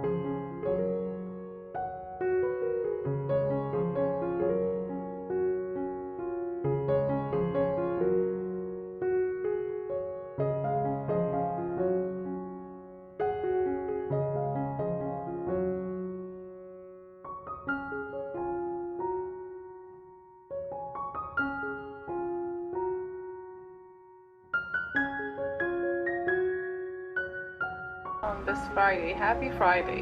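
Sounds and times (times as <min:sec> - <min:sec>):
soft piano music: 0:00.0 - 0:30.0.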